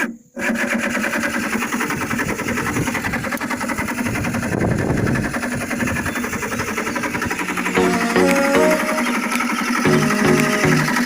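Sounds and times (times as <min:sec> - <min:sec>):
excavator diesel engine clattering: 0:00.4 - 0:11.0.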